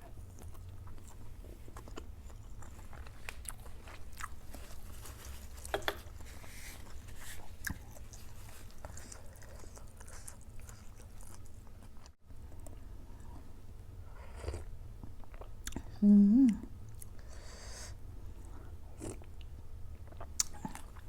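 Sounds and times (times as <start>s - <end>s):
chewing and crunching food: 0.0s - 16.0s, 18.2s - 21.0s.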